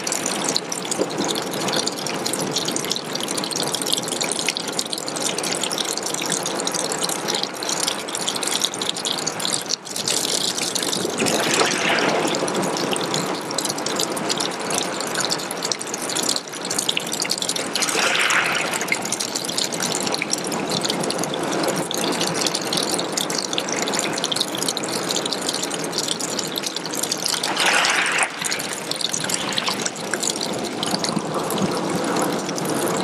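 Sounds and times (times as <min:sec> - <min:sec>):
waterfall splattering onto pebbles: 0:00.0 - 0:33.0.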